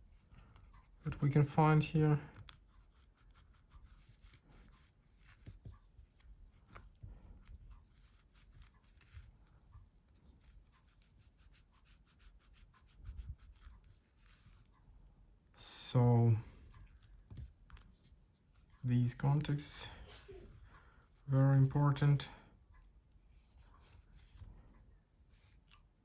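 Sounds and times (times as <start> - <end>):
wet wipe rubbing and scratching: 0.0 - 14.8, 16.7 - 21.3, 23.2 - 25.9.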